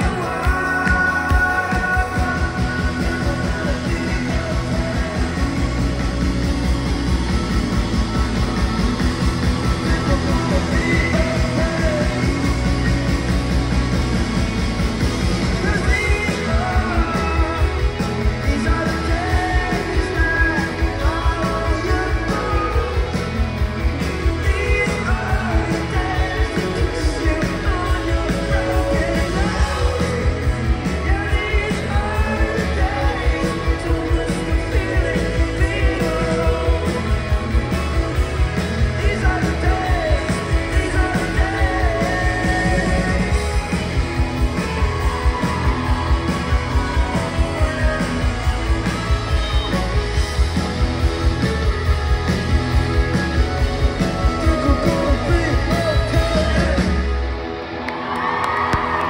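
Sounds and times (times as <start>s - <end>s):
man singing: 0.0s - 6.8s, 8.4s - 14.0s, 15.2s - 51.8s, 52.5s - 57.4s
rock band playing: 0.0s - 59.0s.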